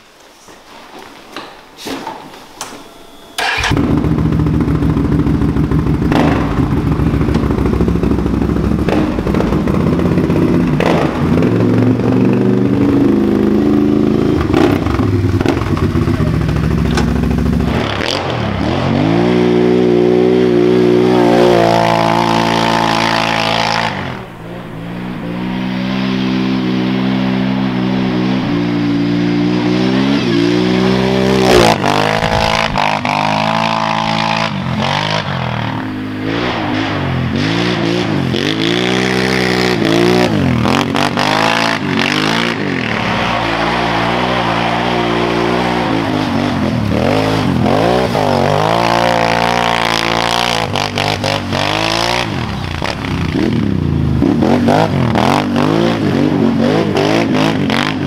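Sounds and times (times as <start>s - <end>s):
atv engine revving: 2.6s - 58.0s.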